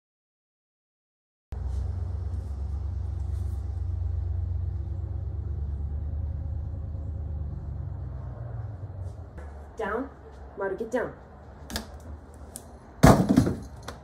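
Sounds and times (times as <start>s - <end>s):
low outdoor rumble: 1.5s - 14.0s.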